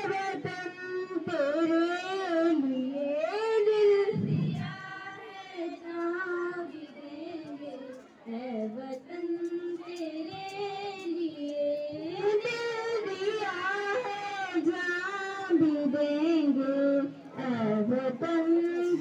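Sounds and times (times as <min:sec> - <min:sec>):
girls singing into microphones: 0:00.0 - 0:19.0.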